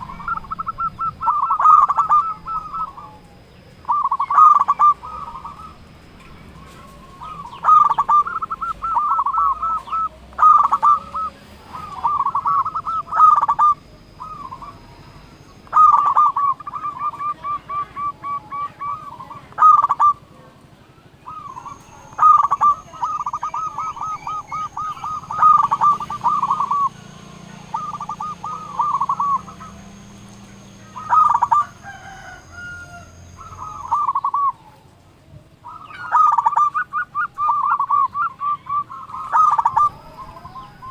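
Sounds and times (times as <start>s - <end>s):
dove cooing in staccato runs: 0.0s - 34.9s, 35.6s - 40.9s.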